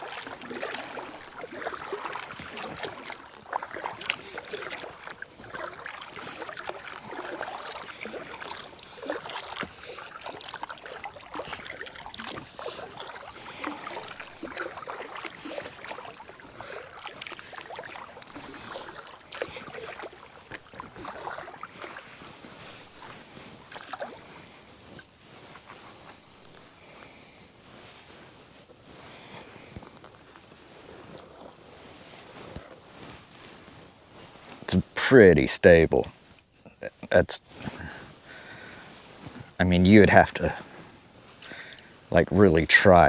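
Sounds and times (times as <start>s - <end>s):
paddle splashing in water: 0.0s - 35.3s.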